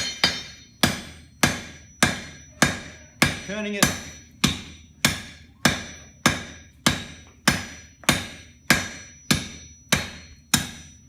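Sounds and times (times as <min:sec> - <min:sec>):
hammer striking steel on anvil: 0:00.0 - 0:11.0.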